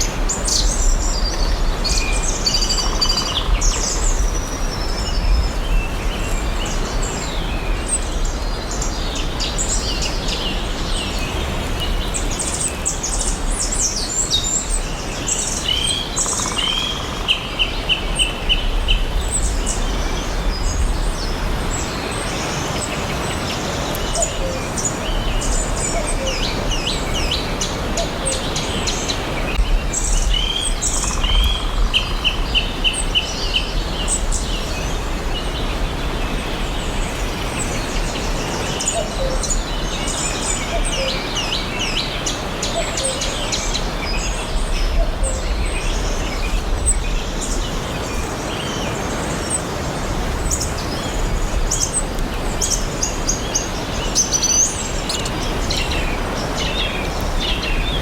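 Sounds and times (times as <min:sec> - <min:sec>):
songbirds chirping and singing: 0:00.0 - 0:58.0.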